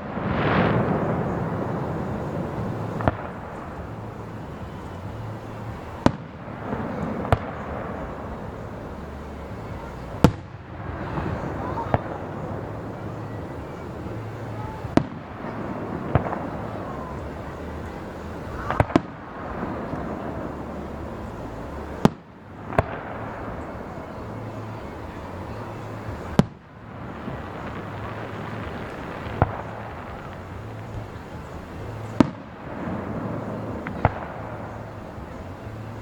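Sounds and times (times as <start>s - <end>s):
firework shells bursting: 0.0s - 36.0s
steady background hiss: 0.0s - 36.0s.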